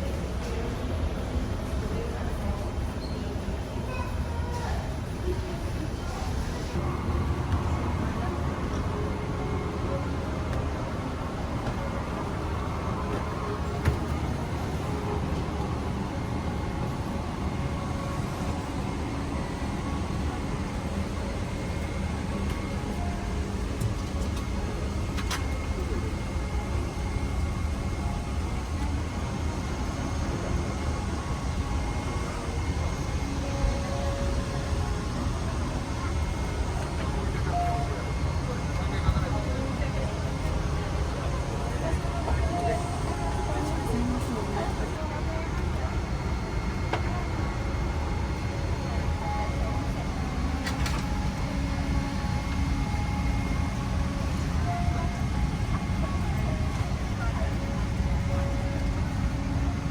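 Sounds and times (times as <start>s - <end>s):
airplane cabin rumble and hiss: 0.0s - 59.9s
faint steady whine: 0.0s - 59.9s.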